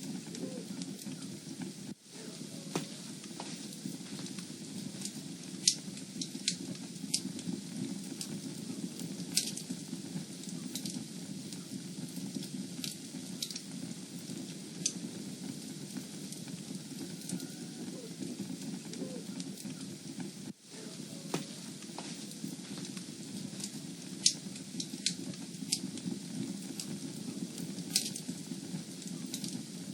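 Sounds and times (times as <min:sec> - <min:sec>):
fire burning with low rush: 0:00.0 - 0:29.9
fire crackles and pops: 0:00.0 - 0:29.9.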